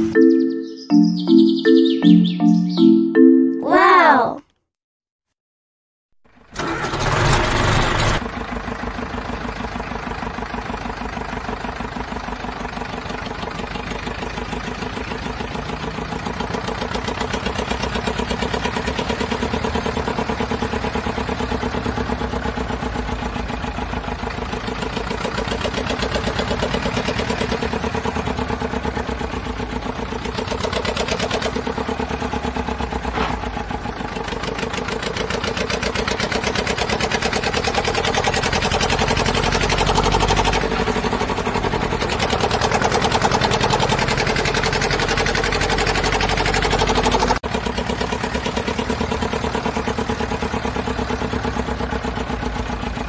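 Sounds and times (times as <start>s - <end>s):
tractor engine chugging: 6.6s - 53.0s.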